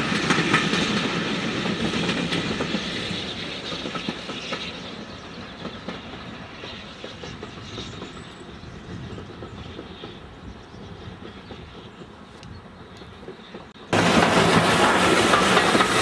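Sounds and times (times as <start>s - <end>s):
steam locomotive exhaust: 0.0s - 16.0s
train wheels clicking over rail joints: 0.0s - 16.0s.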